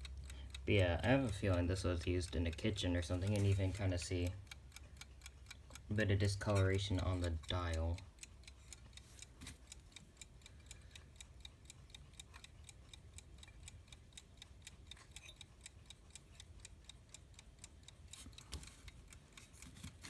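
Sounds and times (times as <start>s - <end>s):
alarm clock ticking: 0.0s - 20.0s.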